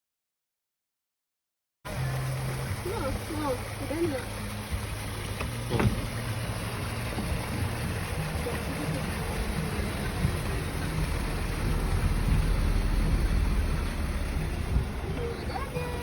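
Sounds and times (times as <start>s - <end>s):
vehicle engine idling: 1.9s - 16.0s.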